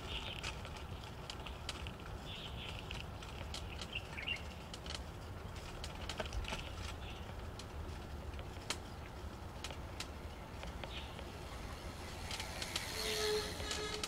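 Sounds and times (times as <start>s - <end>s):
bicycle low rumble: 0.0s - 14.0s.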